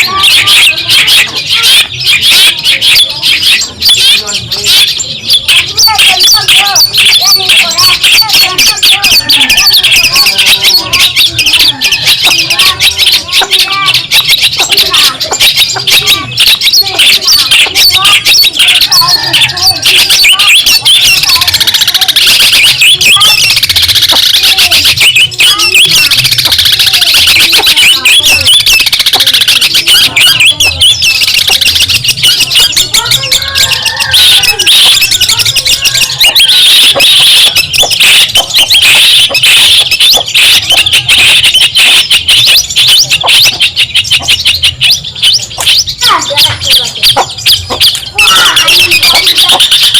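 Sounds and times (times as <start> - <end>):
bird chattering song: 0.0 - 49.9.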